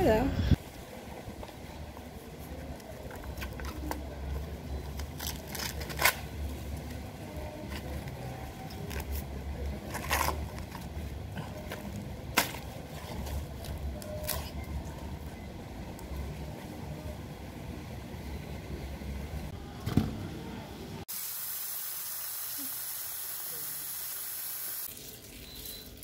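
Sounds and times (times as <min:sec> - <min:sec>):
low steady hum: 0:00.0 - 0:21.1.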